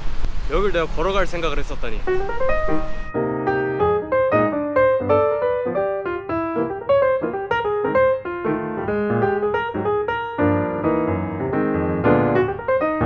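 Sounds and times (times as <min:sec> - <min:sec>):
piano music: 0:00.6 - 0:13.0.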